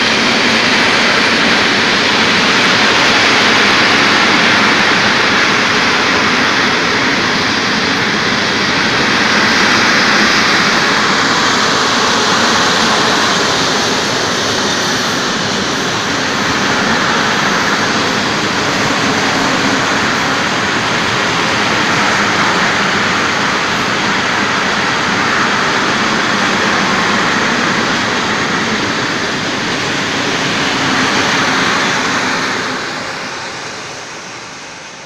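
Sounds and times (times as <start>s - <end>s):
train wheels on rails: 0.0s - 35.0s.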